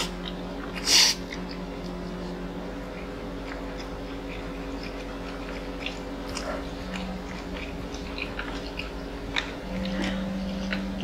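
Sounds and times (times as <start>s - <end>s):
chewing and mouth clicks: 0.0s - 11.0s
steady low hum: 0.0s - 11.0s.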